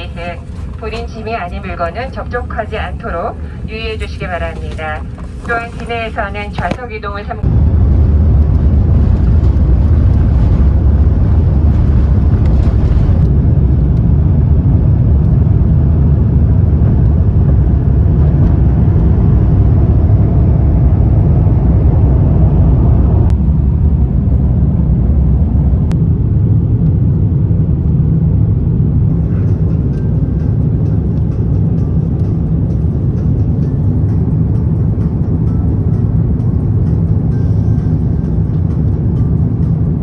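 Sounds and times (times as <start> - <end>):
jet engines rumbling in cabin: 0.0 - 40.0.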